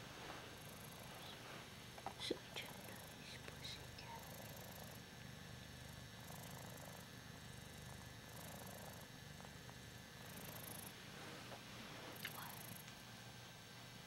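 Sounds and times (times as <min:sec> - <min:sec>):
cat purring: 0:00.0 - 0:13.3.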